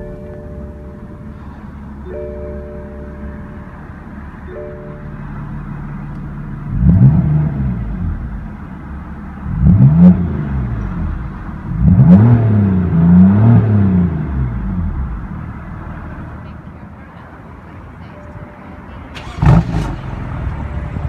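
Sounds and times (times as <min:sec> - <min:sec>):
car engine revving: 0:00.0 - 0:16.3, 0:19.2 - 0:21.0
car engine idling: 0:00.0 - 0:21.0.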